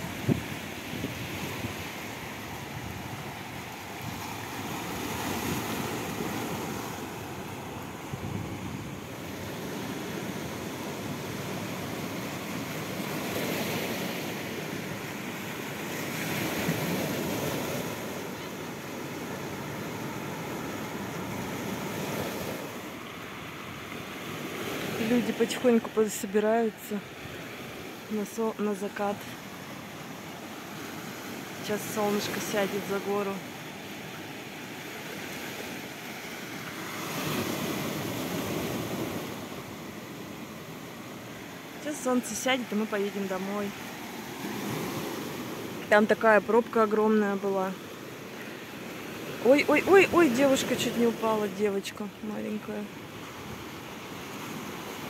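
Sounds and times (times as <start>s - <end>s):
surf washing over rocks: 0.0s - 55.0s.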